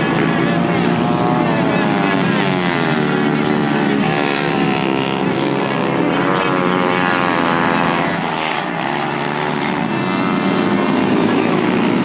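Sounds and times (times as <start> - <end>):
racing motorcycle engines accelerating: 0.0 - 12.0.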